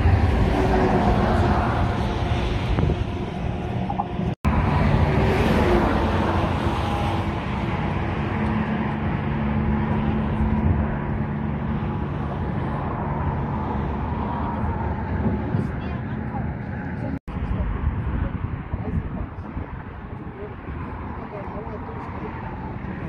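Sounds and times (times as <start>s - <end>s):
passing car traffic: 0.0s - 23.0s.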